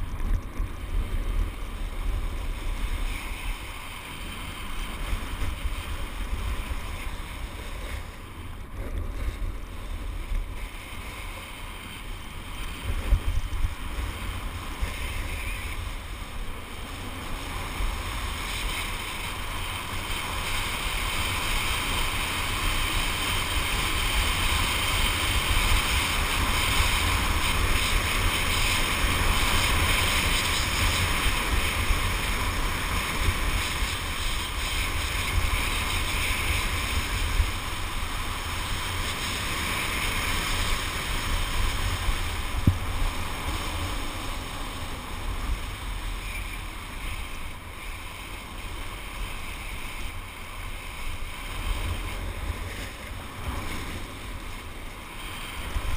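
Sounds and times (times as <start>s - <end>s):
wind on microphone: 0.0s - 55.9s
skis hissing on snow: 1.0s - 55.9s.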